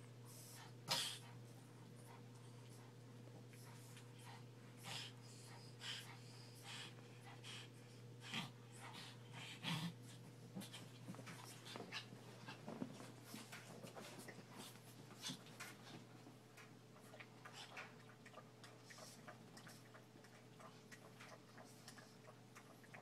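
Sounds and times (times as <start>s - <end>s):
dogs sniffing and snuffling: 0.2s - 23.0s.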